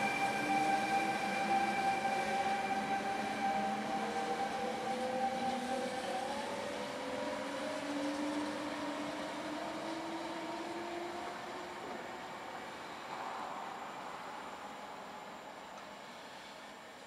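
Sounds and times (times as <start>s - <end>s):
train wheels rumbling on rails: 0.0s - 14.8s
electric locomotive whining: 0.0s - 17.0s.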